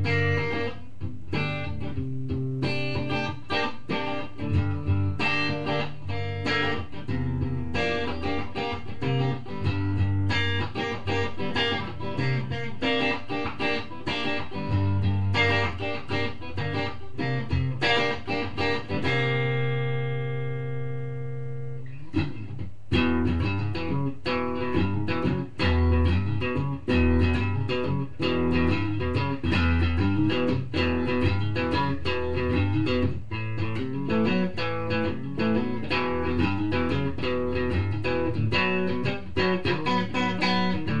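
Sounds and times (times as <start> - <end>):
plucked guitar music: 0.0 - 41.0.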